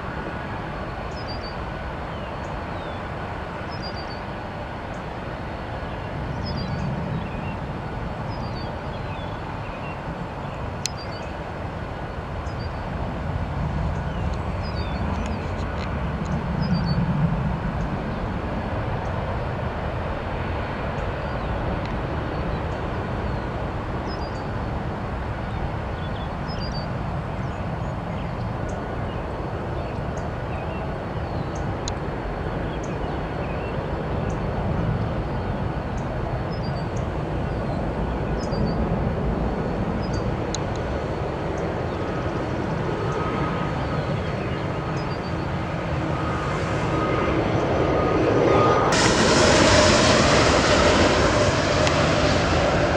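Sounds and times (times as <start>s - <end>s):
airport ambience rumble and hiss: 0.0s - 52.9s.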